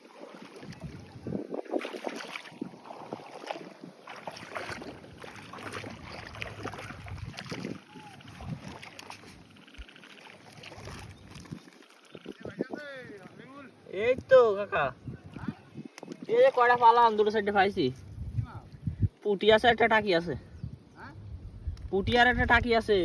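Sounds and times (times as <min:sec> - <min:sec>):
water splashing and sloshing: 0:00.0 - 0:19.3.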